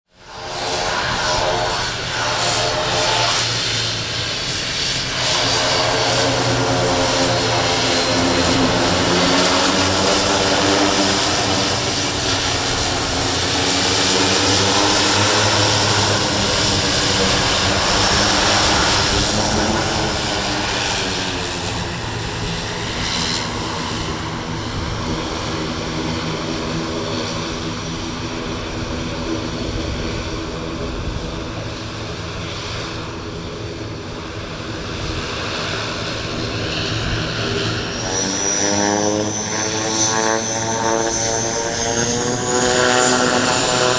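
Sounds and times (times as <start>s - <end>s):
turboprop plane engines droning: 0.1s - 43.9s.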